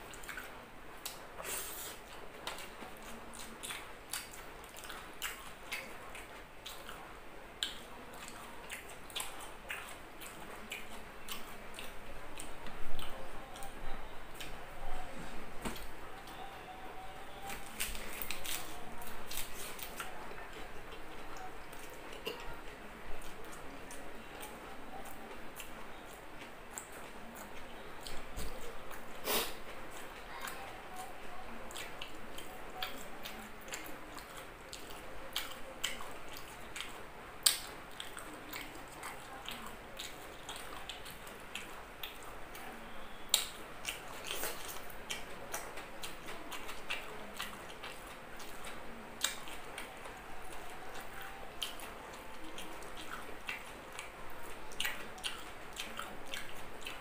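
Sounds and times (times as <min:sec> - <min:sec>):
person chewing: 0:00.0 - 0:07.0, 0:07.6 - 0:13.8, 0:17.4 - 0:57.0.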